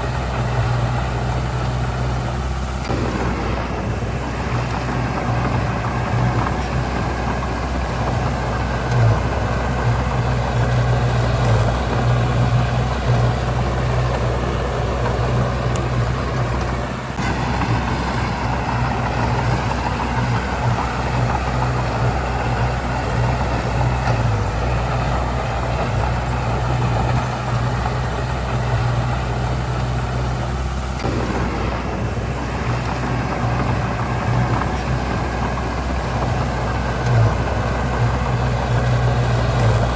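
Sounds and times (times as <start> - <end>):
heavy diesel machinery engine drone: 0.0 - 39.9.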